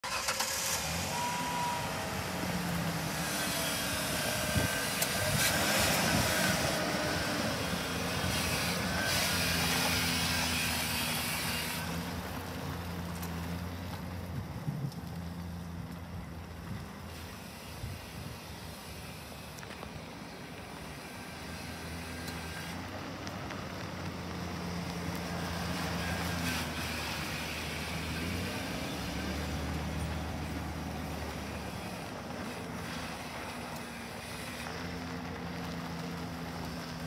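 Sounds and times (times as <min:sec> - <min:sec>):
pickup engine running: 0:00.0 - 0:37.0
tyres hissing on gravel: 0:00.1 - 0:37.0.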